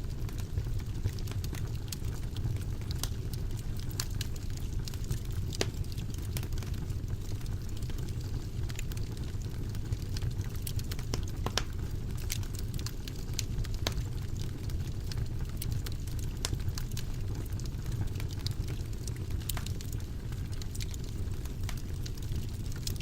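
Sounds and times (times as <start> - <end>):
burning wood crackling and popping: 0.0 - 23.0
low rumble of flames: 0.0 - 23.0.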